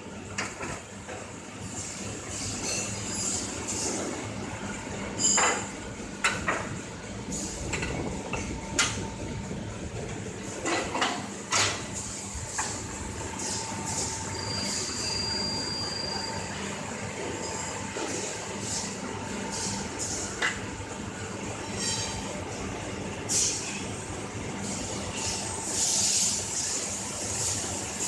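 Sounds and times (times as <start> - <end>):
machinery hum: 0.0 - 28.0.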